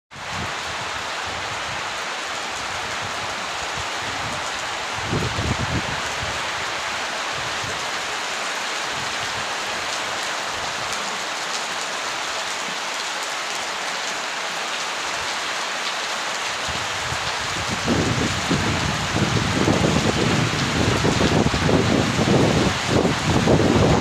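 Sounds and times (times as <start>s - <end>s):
heavy rain hissing: 0.1s - 24.0s.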